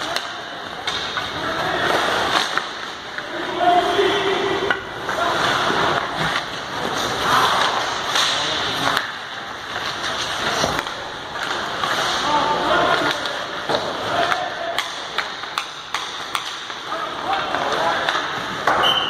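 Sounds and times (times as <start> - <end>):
hockey sticks and puck clacking: 0.0 - 19.0
skates scraping on ice: 0.0 - 19.0.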